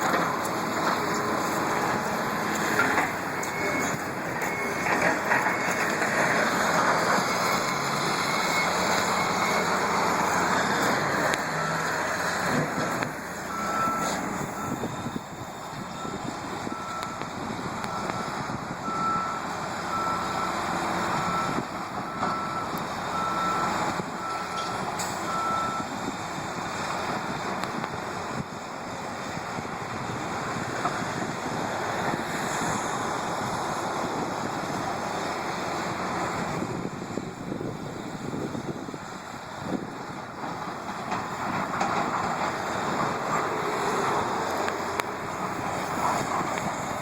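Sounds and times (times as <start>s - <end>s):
heavy diesel machinery running: 0.0s - 47.0s.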